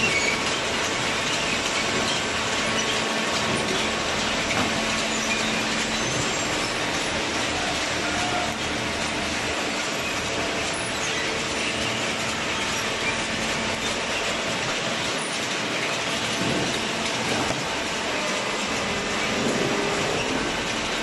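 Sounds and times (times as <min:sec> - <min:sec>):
conveyor mechanical clatter: 0:00.0 - 0:21.0.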